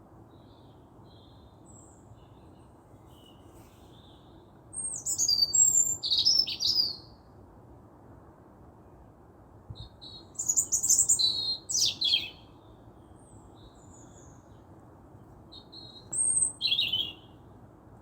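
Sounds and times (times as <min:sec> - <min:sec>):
steady low background noise: 0:00.0 - 0:18.0
songbird singing: 0:00.2 - 0:07.3, 0:09.7 - 0:17.6.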